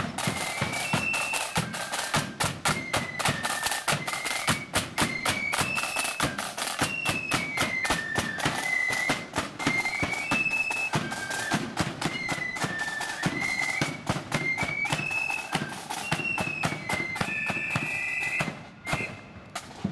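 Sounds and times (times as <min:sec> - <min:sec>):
flute tune: 0:00.0 - 0:19.9.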